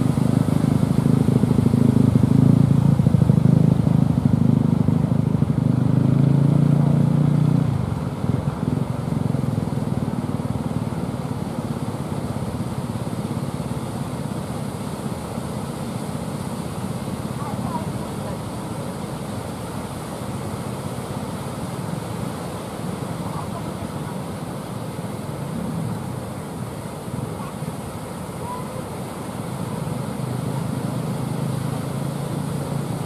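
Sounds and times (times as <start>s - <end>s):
boat engine running: 0.0s - 33.0s
surf washing: 0.0s - 33.0s.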